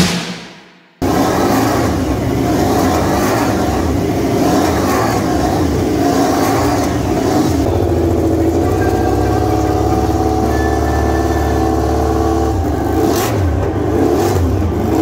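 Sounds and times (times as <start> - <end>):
motorcycle engines running: 1.0 - 15.0.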